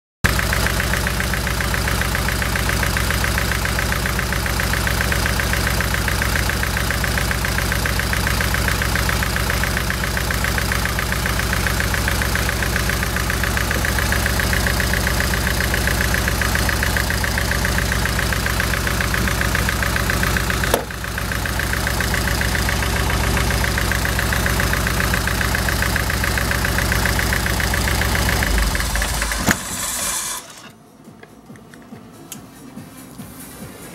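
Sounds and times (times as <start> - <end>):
engine idling with misfire: 0.2 - 30.8.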